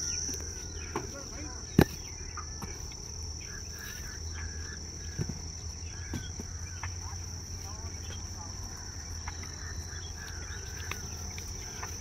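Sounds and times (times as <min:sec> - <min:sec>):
faint chirps: 0:00.0 - 0:12.0
insects trilling: 0:00.0 - 0:12.0
low steady hum: 0:00.0 - 0:12.0.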